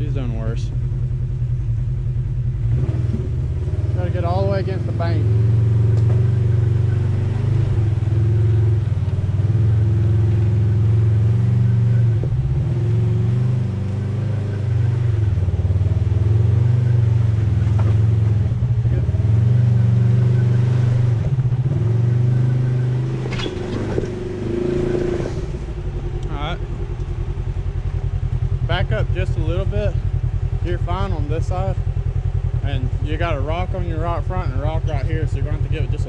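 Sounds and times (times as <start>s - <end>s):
engine running at low revs: 0.0s - 36.0s.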